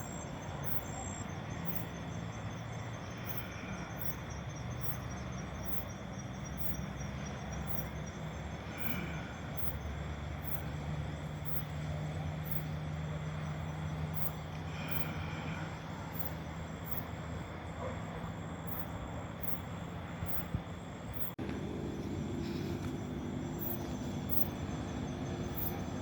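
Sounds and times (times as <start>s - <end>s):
insects chirping: 0.0s - 26.0s
low steady hum: 0.0s - 26.0s.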